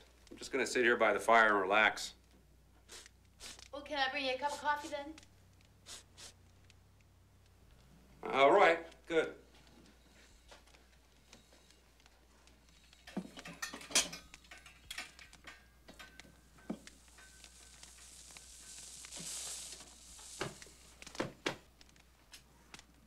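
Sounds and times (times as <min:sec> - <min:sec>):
fire hissing: 0:00.0 - 0:08.2, 0:08.8 - 0:23.0
wood fire crackling: 0:00.0 - 0:23.0.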